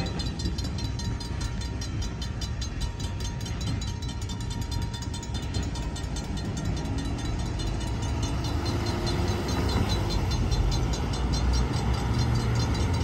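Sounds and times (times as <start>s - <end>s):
cars rumbling over crossing: 0.0s - 13.0s
crossing warning bell ringing: 0.0s - 13.0s.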